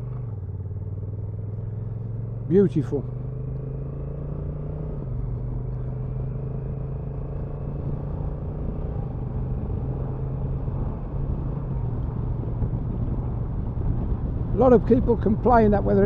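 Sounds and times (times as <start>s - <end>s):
motorcycle engine at low revs: 0.0s - 16.0s
road and wind noise: 0.0s - 16.0s.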